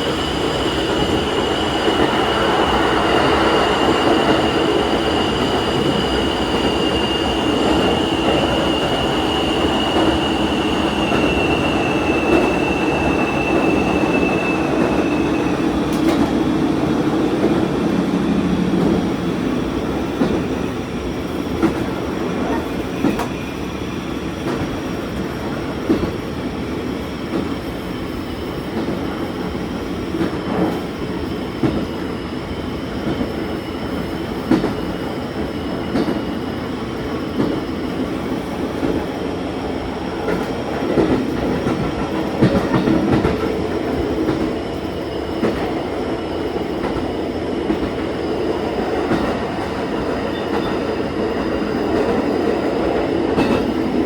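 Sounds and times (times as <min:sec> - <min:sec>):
diesel railcar engine and wheels: 0:00.0 - 0:54.0.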